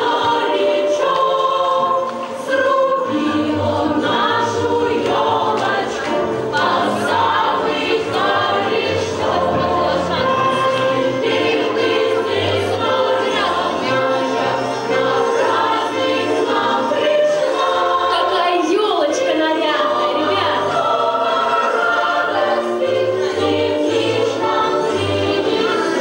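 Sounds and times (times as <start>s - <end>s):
group singing with instrumental backing: 0.0s - 26.0s.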